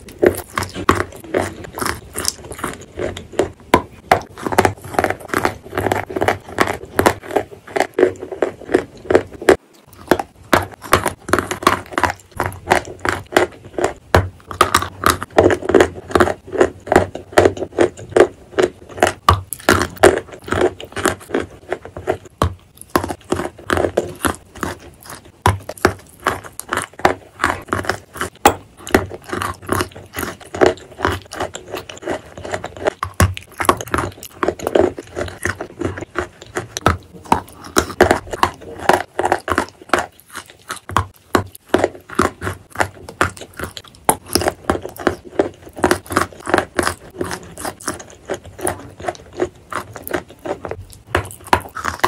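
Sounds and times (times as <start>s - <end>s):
chewing and crunching chalk: 0.0s - 52.0s
wet mouth sounds: 0.0s - 52.0s.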